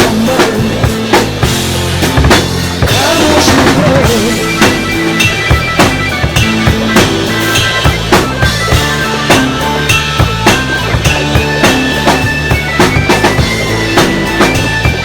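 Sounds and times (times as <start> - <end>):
drum kit beat: 0.0 - 15.0
pop backing track: 0.0 - 15.0.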